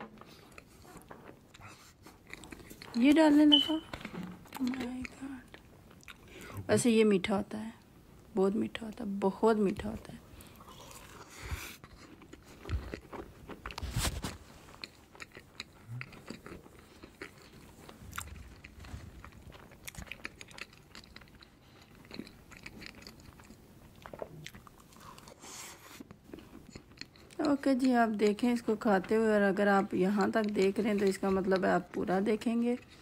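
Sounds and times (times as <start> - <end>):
chewing with mouth clicks: 0.1 - 6.7, 9.6 - 28.6, 29.9 - 33.0.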